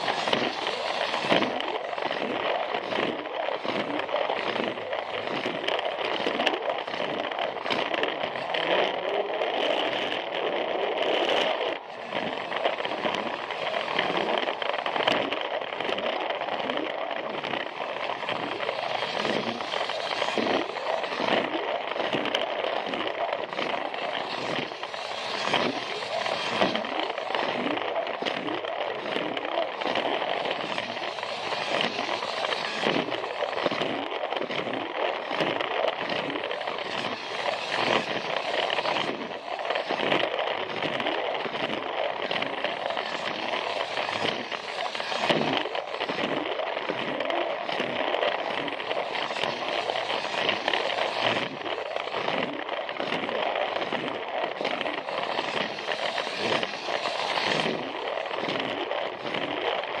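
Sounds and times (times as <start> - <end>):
toy train motor whirring: 0.0 - 60.0
wheels clicking over track joints: 0.0 - 60.0.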